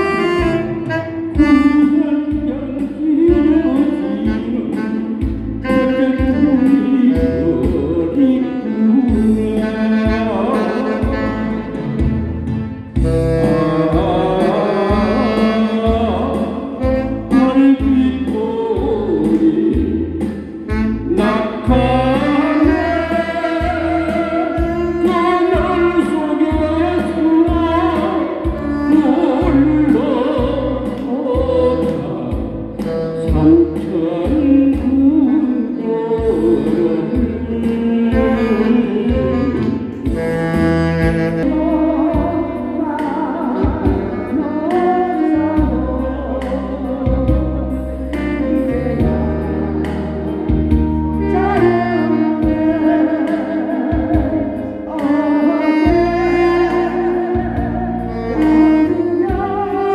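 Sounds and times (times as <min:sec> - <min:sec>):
man singing into a microphone: 0:00.0 - 0:12.3, 0:12.9 - 0:59.9
backing track with steady beat: 0:00.0 - 0:59.9
saxophone: 0:00.0 - 0:59.9.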